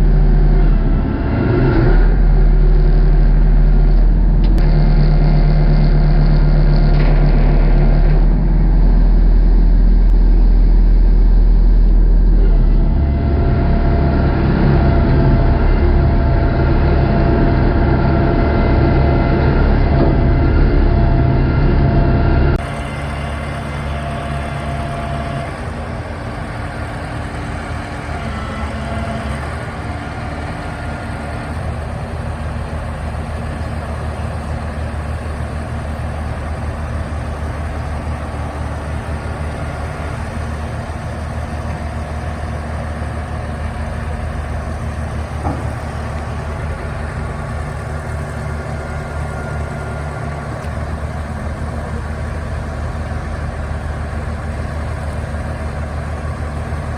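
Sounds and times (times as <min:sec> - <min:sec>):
excavator diesel engines running: 0:00.0 - 0:56.9.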